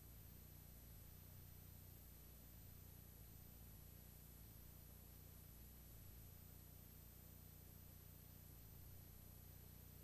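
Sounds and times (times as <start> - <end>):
low hum with faint hiss: 0.0 - 10.0.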